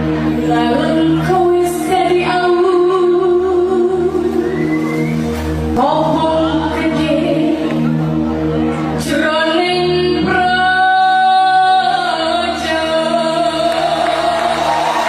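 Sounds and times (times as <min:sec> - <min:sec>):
musical accompaniment: 0:00.0 - 0:15.0
woman singing: 0:00.4 - 0:04.7, 0:05.7 - 0:08.0, 0:09.0 - 0:15.0.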